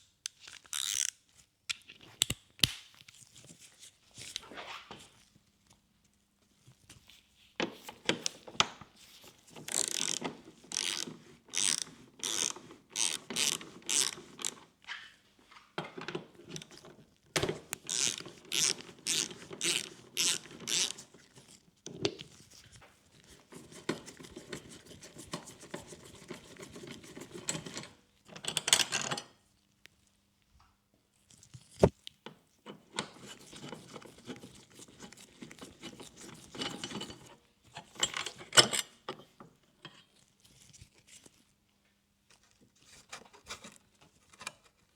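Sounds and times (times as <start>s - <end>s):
soft scraping and handling: 3.0s - 28.3s, 31.1s - 44.9s.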